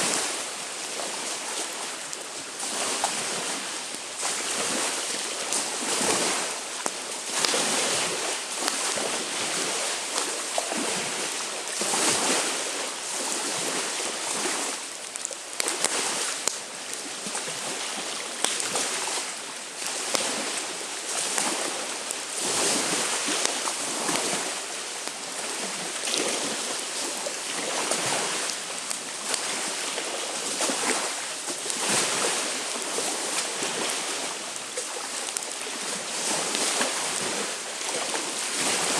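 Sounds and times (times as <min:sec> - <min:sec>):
campfire crackling: 0:00.0 - 0:38.9
waves washing onto shore: 0:00.0 - 0:38.9
wind: 0:00.0 - 0:38.9.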